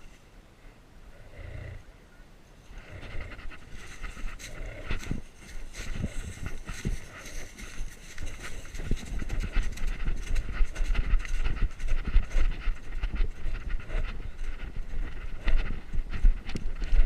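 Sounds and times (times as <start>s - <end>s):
animal panting hard: 2.8s - 17.0s.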